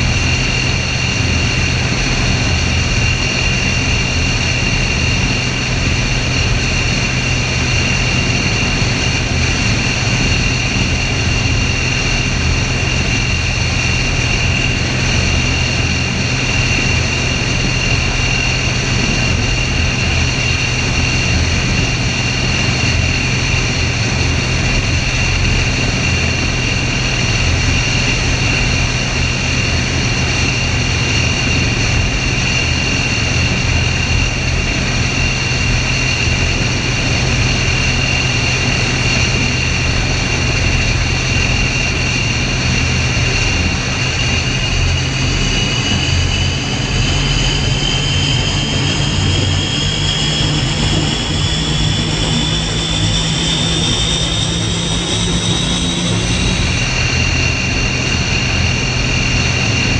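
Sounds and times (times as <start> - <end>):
helicopter engine whine: 0.0 - 59.9
helicopter rotor drone: 0.0 - 59.9.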